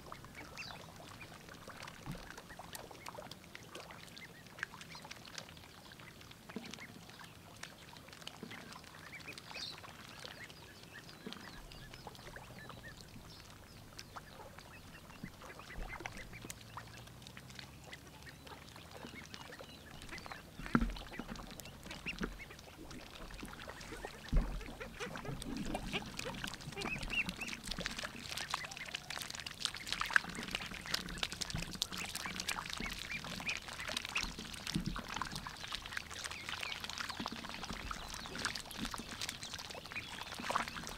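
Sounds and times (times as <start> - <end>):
ducklings dabbling in water: 0.0 - 40.9.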